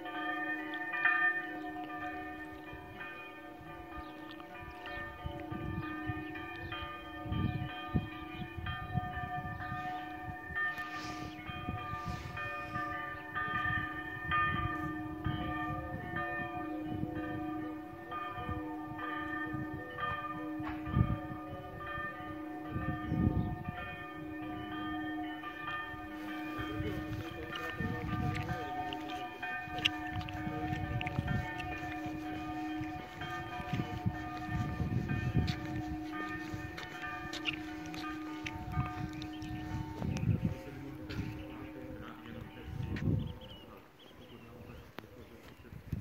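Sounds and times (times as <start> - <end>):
church bells ringing: 0.0 - 46.0.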